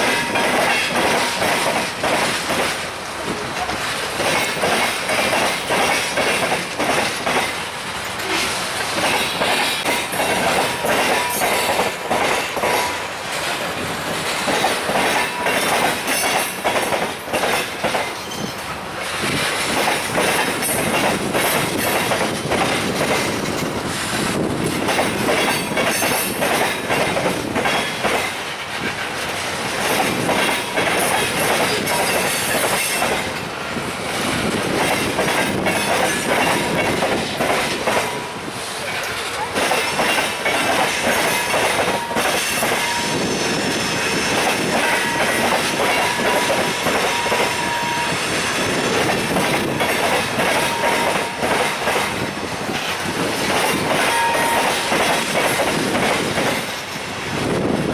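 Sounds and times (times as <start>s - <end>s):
freight train wheels clicking: 0.0s - 57.9s.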